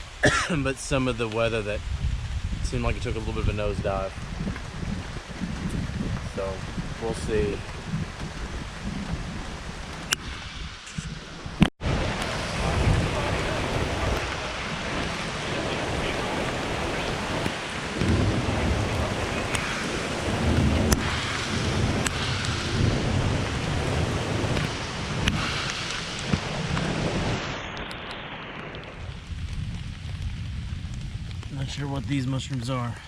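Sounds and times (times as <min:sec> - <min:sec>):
raindrops ticking close by: 0:00.0 - 0:10.3, 0:11.6 - 0:33.0
heavy rain: 0:00.0 - 0:33.0
low thunder rumbles: 0:00.0 - 0:33.0.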